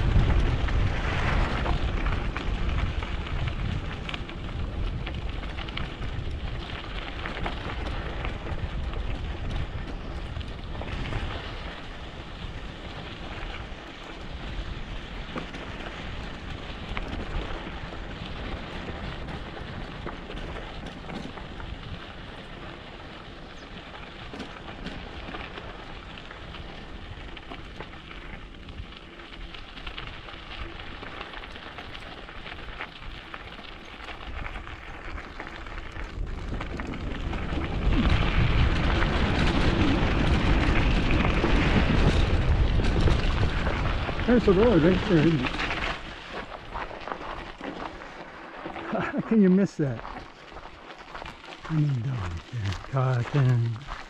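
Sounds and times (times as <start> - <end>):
bike tyres rolling on gravel: 0.0 - 54.0
wind rumble on microphone: 0.0 - 54.0.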